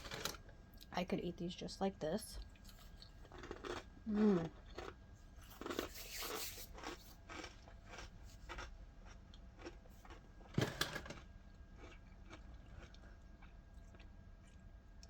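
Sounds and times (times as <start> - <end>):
chewing crunchy cereal: 0.0 - 0.9, 2.4 - 15.0.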